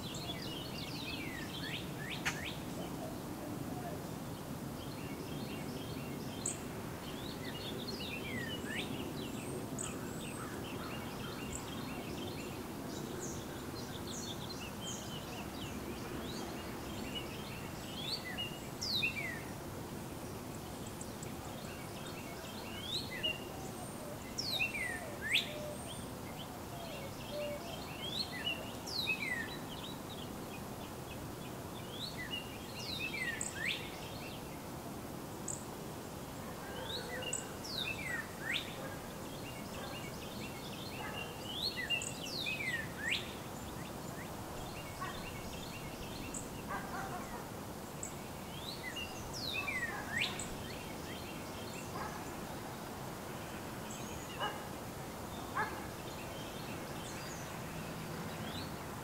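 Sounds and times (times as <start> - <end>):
songbirds chirping: 0.0 - 59.0
steady recording hiss: 0.0 - 59.0.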